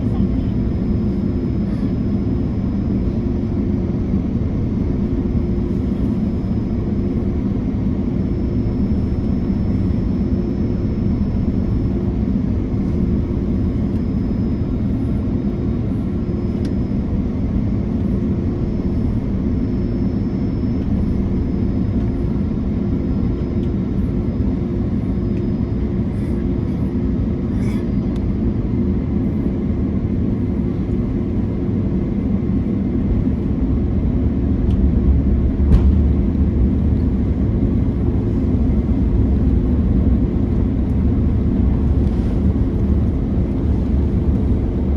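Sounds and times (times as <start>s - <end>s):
constant low hum: 0.0s - 44.9s
roar of airflow and engines: 0.0s - 44.9s.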